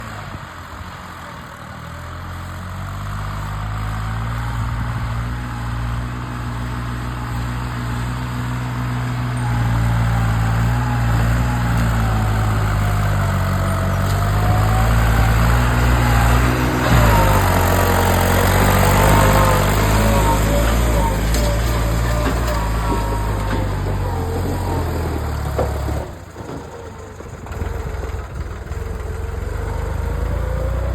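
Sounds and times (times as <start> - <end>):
tractor diesel engine rumbling: 0.0 - 30.9.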